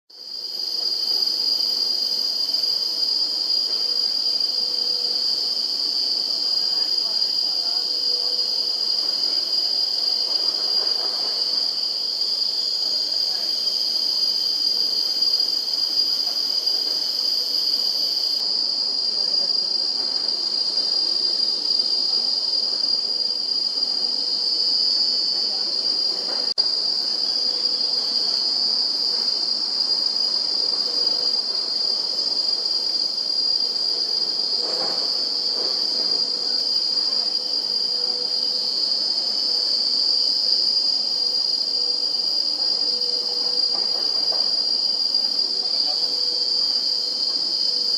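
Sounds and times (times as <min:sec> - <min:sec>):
insects droning: 0:00.1 - 0:47.9.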